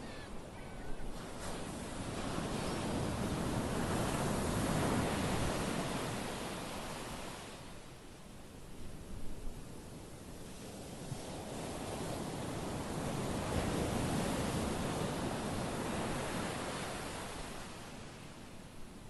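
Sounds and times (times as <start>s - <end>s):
small waves washing up beach: 0.0s - 19.0s.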